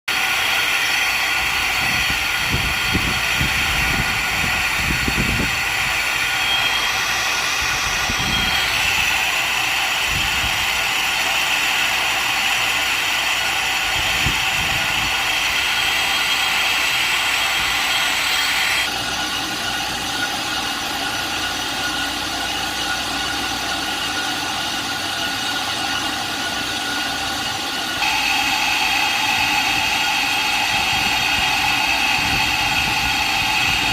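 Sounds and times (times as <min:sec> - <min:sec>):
metal lathe running: 0:00.1 - 0:33.9.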